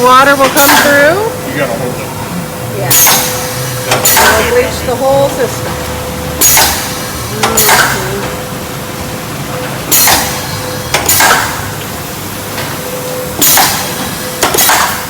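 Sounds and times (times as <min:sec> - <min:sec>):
noisy pump surges: 0:00.0 - 0:15.0
pump whine and hum: 0:00.0 - 0:15.0.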